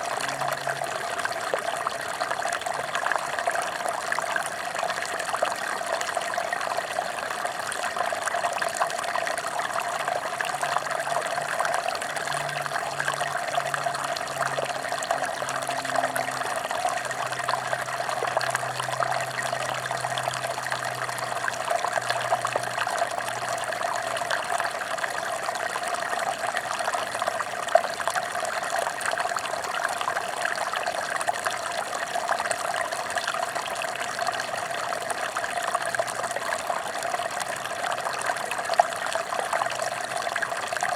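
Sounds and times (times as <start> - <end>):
stream splashing over rocks: 0.0 - 40.9.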